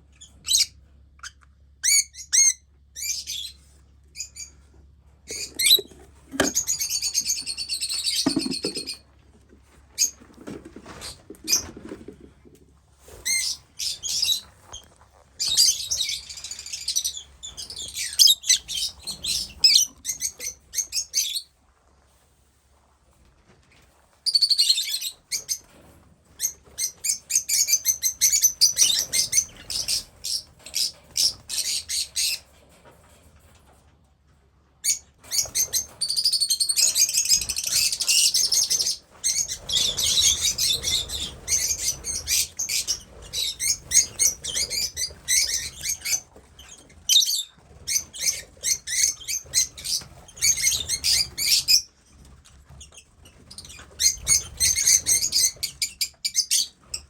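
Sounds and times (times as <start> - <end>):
lovebirds chirping and squawking: 0.2 - 9.0, 10.0 - 12.2, 13.0 - 21.5, 24.3 - 32.6, 34.8 - 57.0.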